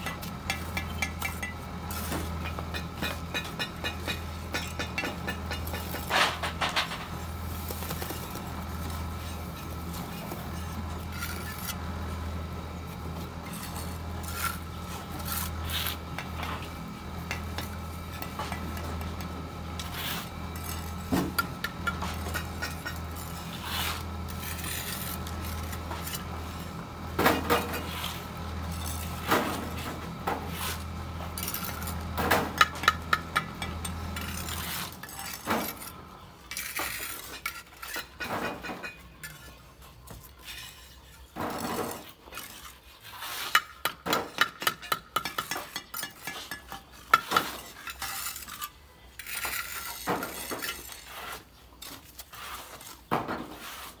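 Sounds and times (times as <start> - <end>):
trowel scraping bricks and mortar: 0.0 - 54.0.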